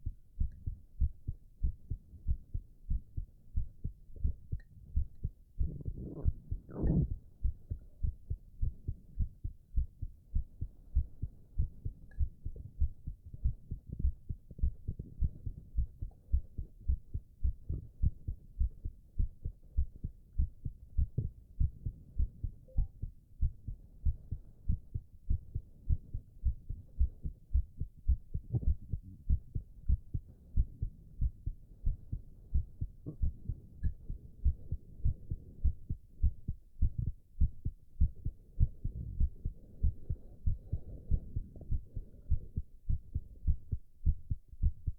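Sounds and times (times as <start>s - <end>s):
heartbeat thumps: 0.0s - 44.9s.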